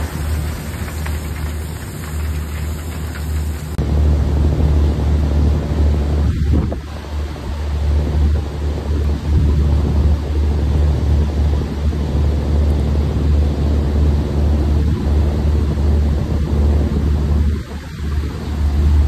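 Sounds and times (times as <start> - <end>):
broad rushing noise: 0.0 - 19.0
machinery low rumble: 0.0 - 19.0.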